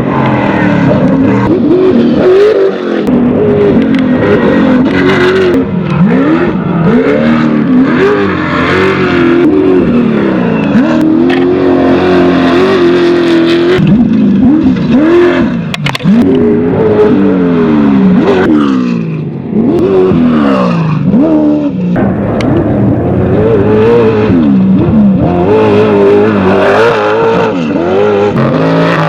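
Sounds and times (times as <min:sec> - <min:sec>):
race vehicle engines revving: 0:00.0 - 0:29.0.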